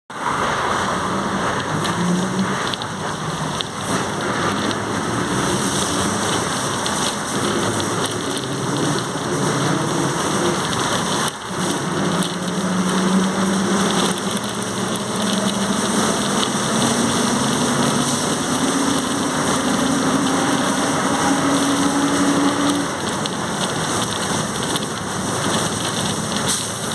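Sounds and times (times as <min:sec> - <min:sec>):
road and running noise: 0:00.1 - 0:26.9
bus transmission groaning: 0:01.0 - 0:26.9.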